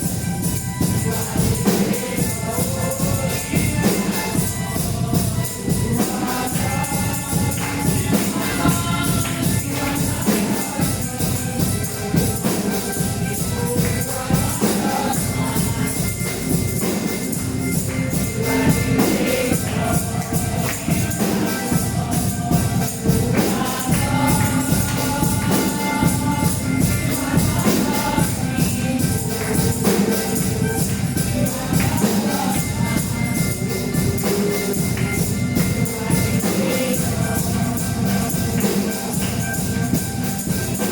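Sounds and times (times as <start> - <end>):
bass-heavy backing music: 0.0 - 40.9
tambourine shaking: 0.0 - 40.9
voices singing: 0.0 - 40.9.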